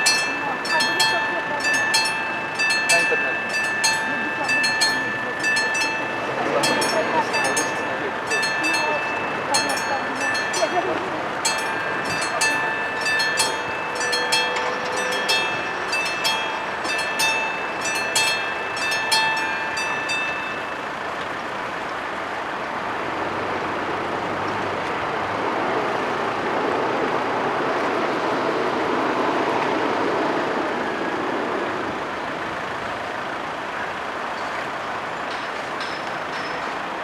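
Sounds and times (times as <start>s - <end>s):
level crossing warning bell: 0.0s - 24.2s, 27.6s - 37.0s.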